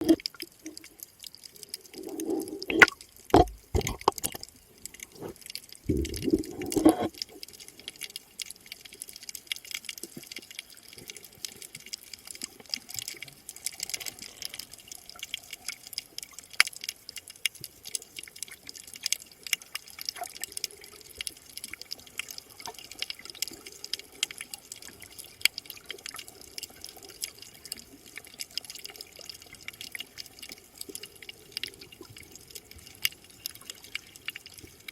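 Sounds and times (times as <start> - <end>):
dense crackle of tiny clicks: 0.0 - 34.9.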